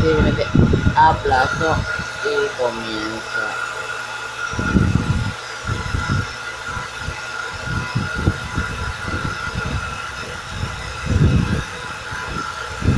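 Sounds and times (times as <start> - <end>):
air compressor whining: 0.0 - 12.9
spray gun blowing air: 0.0 - 12.9.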